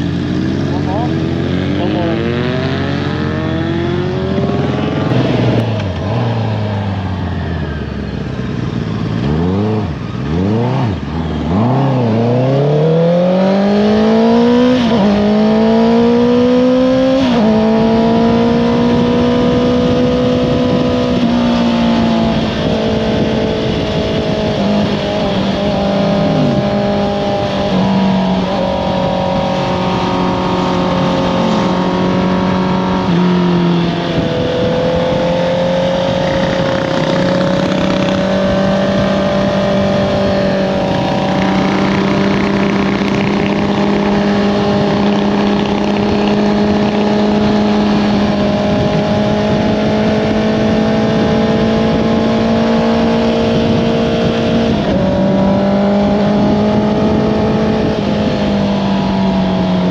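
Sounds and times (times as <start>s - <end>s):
motorcycle engine revving: 0.0s - 59.9s
throttle blips on downshifts: 8.8s - 59.9s.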